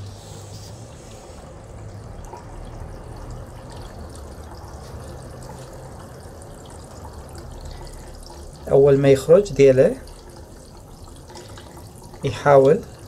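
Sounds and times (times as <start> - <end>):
trickle of running water: 0.0 - 13.0.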